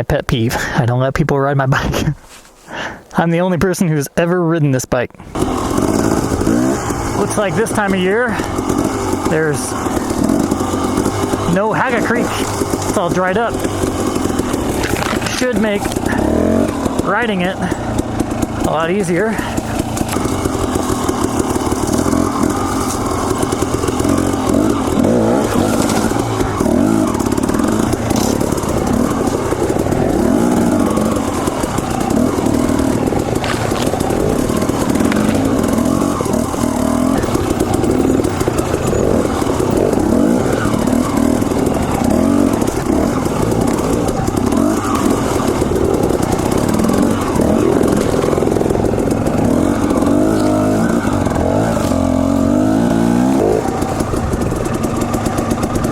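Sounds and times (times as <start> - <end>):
dirt bike engine revving: 5.2 - 55.9.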